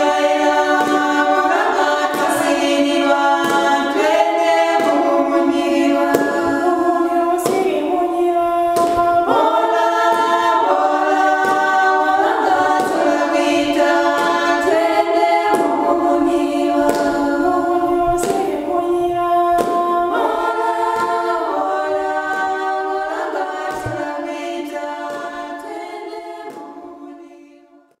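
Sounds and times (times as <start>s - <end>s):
women singing in harmony: 0.0s - 28.0s.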